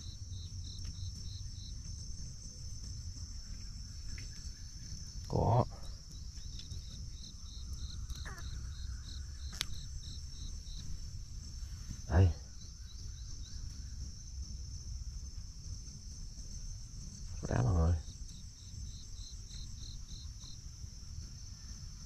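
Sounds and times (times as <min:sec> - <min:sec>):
cricket-like chirping: 0:00.0 - 0:22.0
insects buzzing: 0:00.0 - 0:22.0.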